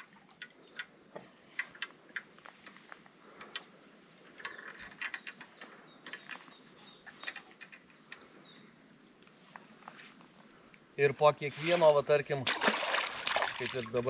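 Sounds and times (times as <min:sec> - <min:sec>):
songbird chirps: 0:00.0 - 0:12.4.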